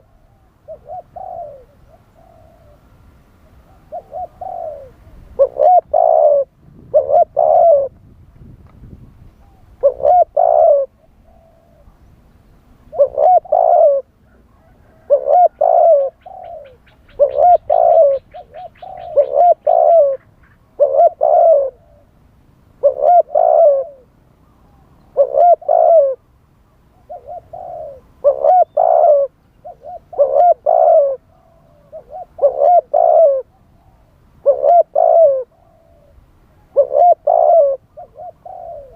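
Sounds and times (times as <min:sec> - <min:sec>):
dove cooing: 0:00.0 - 0:08.0, 0:09.4 - 0:12.1, 0:12.8 - 0:22.2, 0:22.8 - 0:26.3, 0:26.9 - 0:38.9.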